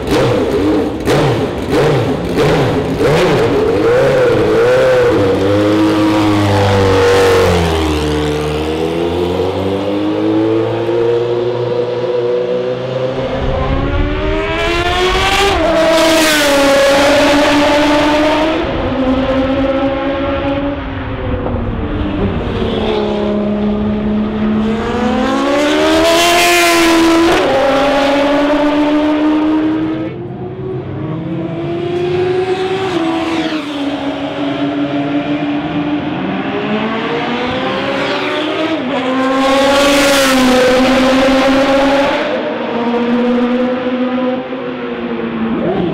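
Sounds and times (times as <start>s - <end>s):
racing car engine at high revs: 0.0s - 45.9s.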